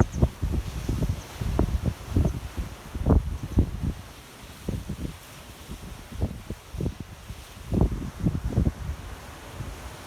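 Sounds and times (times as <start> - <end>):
wind buffeting microphone: 0.0 - 5.2, 5.8 - 10.0.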